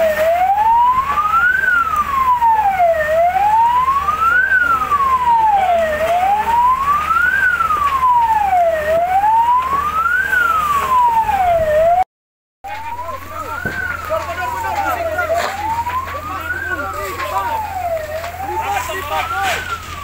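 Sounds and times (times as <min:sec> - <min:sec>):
fire engine siren wailing: 0:00.0 - 0:12.1, 0:12.7 - 0:20.0.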